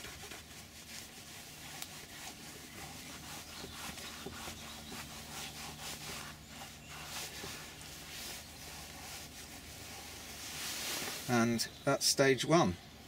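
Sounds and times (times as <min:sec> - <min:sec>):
cloth rubbing on leather: 0:00.0 - 0:11.4.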